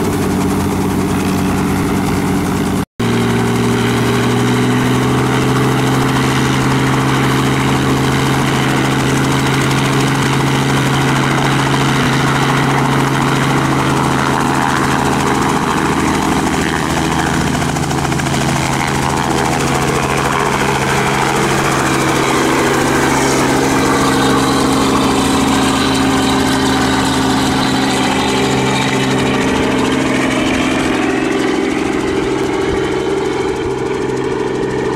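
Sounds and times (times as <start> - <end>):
helicopter engine and rotors droning: 0.0 - 34.9.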